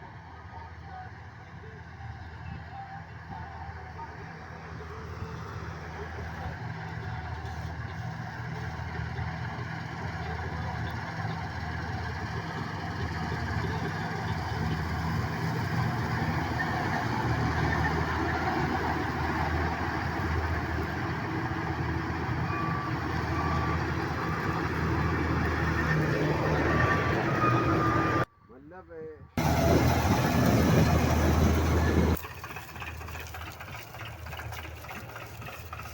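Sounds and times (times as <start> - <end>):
diesel engine of farm machinery: 0.0 - 28.3, 29.4 - 35.9.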